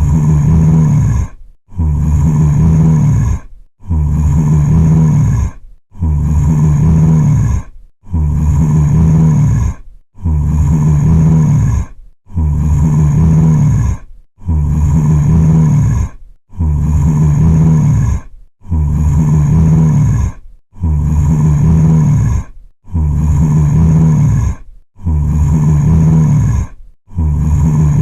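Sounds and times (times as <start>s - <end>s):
zombie groan: 0.0s - 28.0s.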